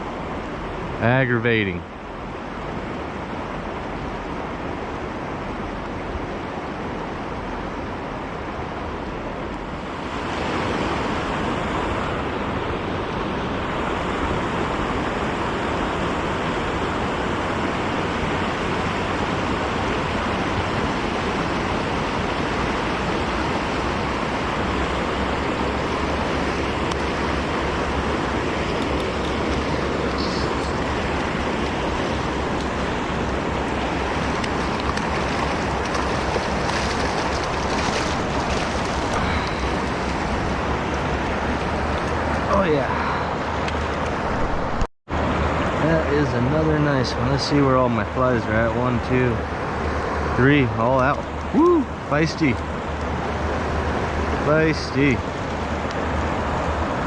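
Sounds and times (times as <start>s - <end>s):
river current rushing: 0.0s - 57.0s.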